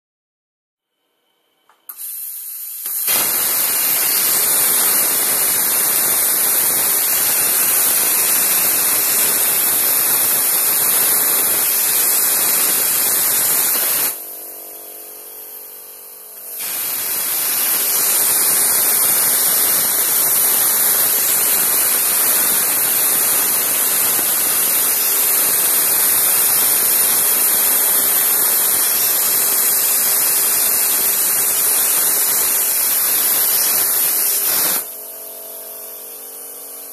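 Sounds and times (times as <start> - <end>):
plasma cutter arc hissing: 1.9 - 36.9.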